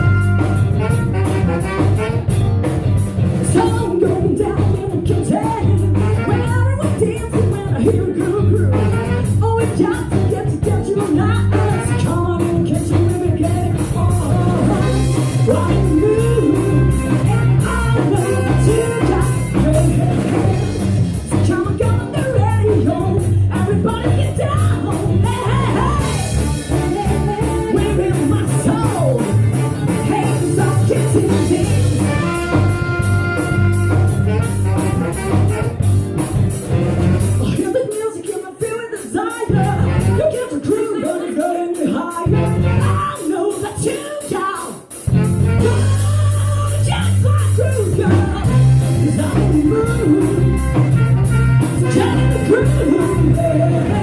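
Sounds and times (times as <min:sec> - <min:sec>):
bass line: 0:00.0 - 0:37.8, 0:39.4 - 0:40.4, 0:42.1 - 0:43.2, 0:44.9 - 0:54.0
band holding chords: 0:00.0 - 0:54.0
drum beat with cymbals: 0:00.0 - 0:54.0
person singing: 0:03.4 - 0:35.7, 0:37.3 - 0:54.0.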